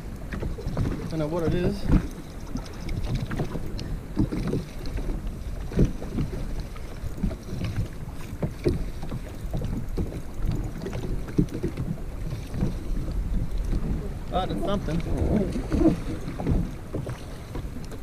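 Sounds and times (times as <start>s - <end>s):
waves slapping against hull: 0.0s - 18.0s
wind buffeting microphone: 0.0s - 18.0s.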